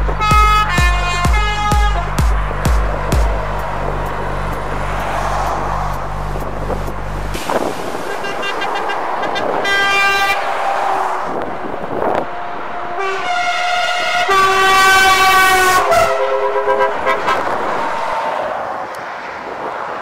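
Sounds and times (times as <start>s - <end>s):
truck air horns: 0.0s - 6.5s, 7.3s - 18.6s
passing trucks rushing: 0.0s - 20.0s.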